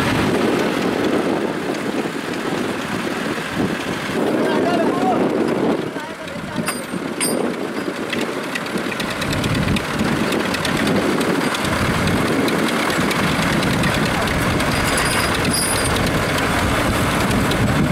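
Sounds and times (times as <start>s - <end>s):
diesel tractor engine running: 0.0s - 17.9s.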